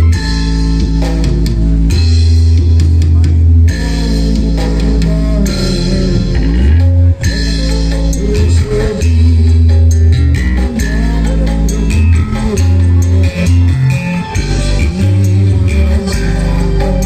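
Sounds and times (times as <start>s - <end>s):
music with bass guitar and drums: 0.0s - 17.0s.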